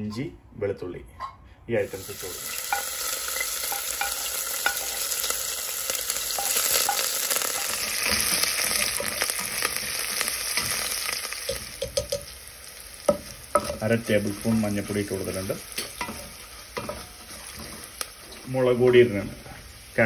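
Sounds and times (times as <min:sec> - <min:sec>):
spices sizzling in hot oil: 0:01.8 - 0:20.0.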